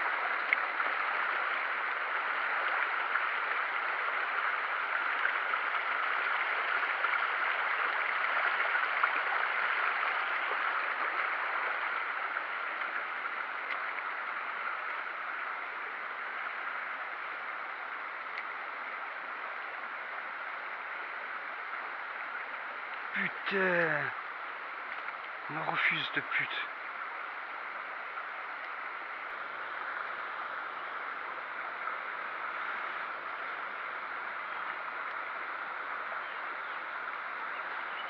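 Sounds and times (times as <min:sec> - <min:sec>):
river water rushing: 0:00.1 - 0:38.0.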